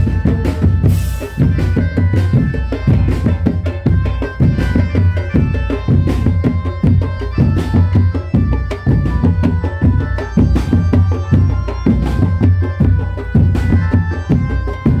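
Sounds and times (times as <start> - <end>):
held melody line: 0.0 - 15.0.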